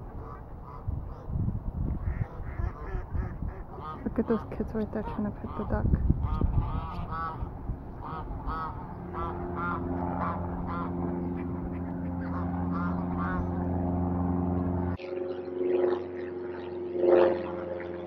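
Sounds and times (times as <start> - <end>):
geese honking: 0.0 - 1.4, 2.0 - 18.0
steady low hum: 0.0 - 18.0.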